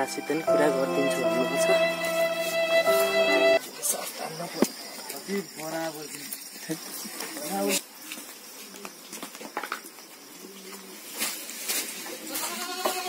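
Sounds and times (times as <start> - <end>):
leaves and straw rustling: 0.8 - 13.0.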